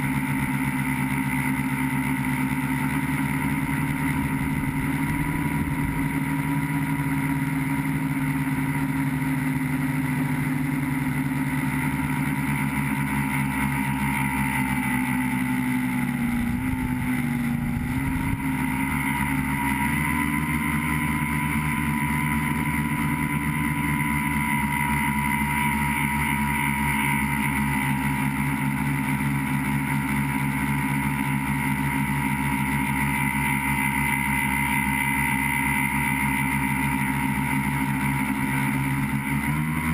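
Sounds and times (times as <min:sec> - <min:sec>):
drone motors and propellers whining: 0:00.0 - 0:39.9.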